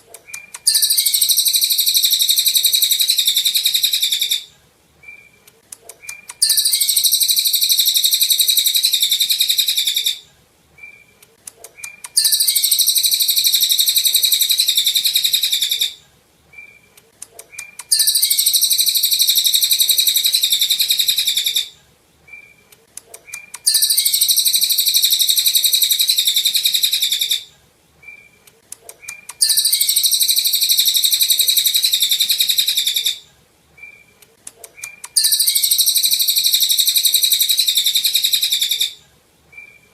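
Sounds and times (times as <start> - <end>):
songbird twittering song: 0.1 - 39.9.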